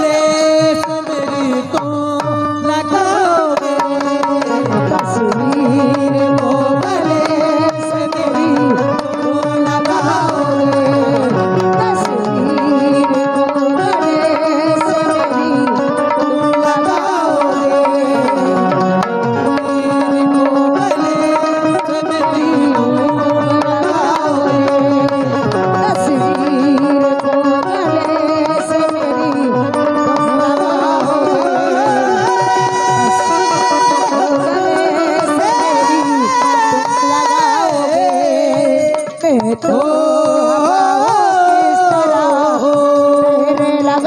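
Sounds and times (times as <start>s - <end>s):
hand drum beat: 0.0s - 44.0s
harmonium melody: 0.0s - 44.0s
woman singing: 0.0s - 44.0s.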